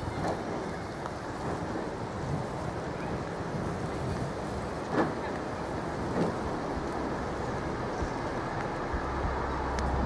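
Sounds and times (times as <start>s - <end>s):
funicular car rumbling on rails: 0.0s - 10.0s.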